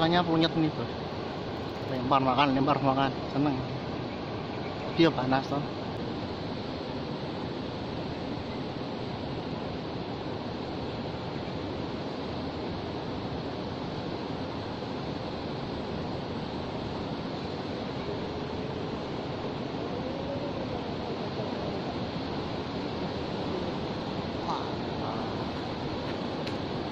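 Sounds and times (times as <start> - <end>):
shallow river water rushing: 0.0 - 26.9.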